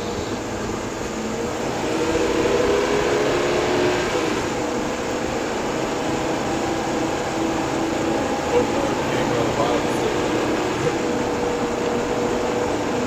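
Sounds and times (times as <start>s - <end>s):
engine drone: 0.0s - 13.0s
road and wind noise: 0.0s - 13.0s.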